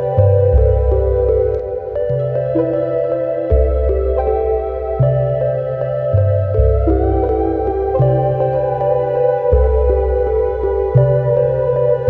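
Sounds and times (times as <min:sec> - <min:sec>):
calm ambient keyboard music: 0:00.0 - 0:12.0.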